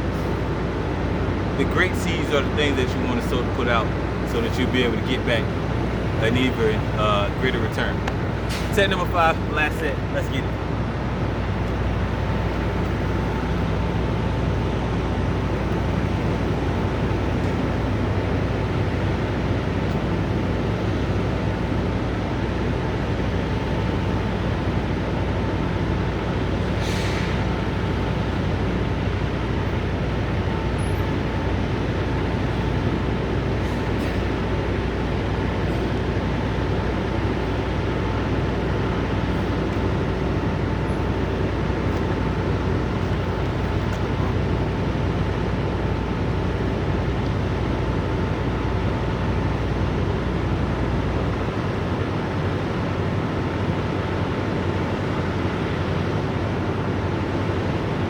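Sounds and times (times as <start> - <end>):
thin steady whine: 0.0 - 26.8, 27.4 - 58.0
diesel truck engines idling: 0.0 - 58.0.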